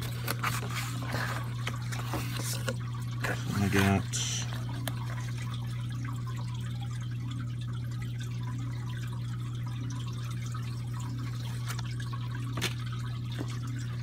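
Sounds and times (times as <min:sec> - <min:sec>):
low pump hum: 0:00.0 - 0:14.0
water trickling and dripping: 0:01.3 - 0:14.0.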